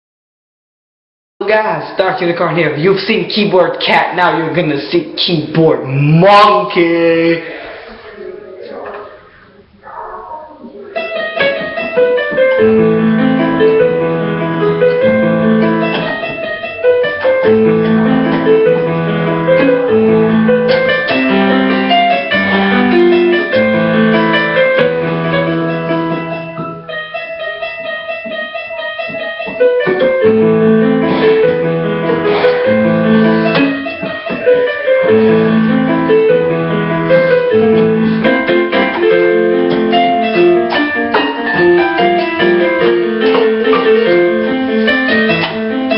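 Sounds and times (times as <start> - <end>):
held low keyboard chords: 7.3 - 45.9
electronic keyboard piano melody: 7.5 - 45.9.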